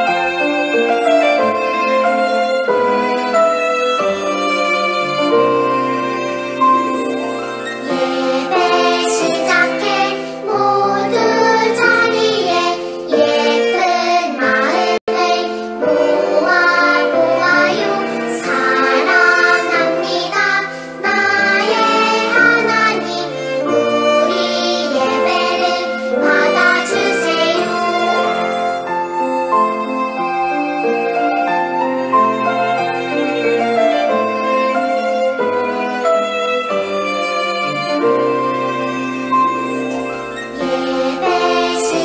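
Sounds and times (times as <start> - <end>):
instrumental backing music: 0.0 - 42.0
children's worship song: 6.6 - 30.2, 31.4 - 42.0.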